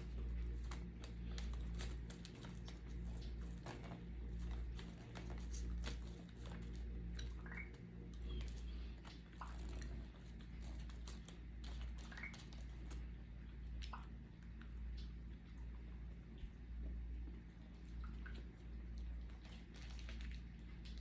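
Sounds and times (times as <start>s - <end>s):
chewing and eating clicks: 0.0s - 21.0s
low electrical hum: 0.0s - 21.0s.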